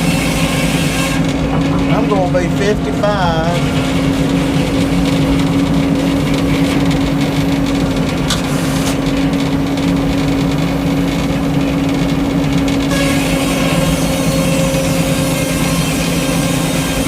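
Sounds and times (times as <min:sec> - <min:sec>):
sawmill running: 0:00.0 - 0:17.0.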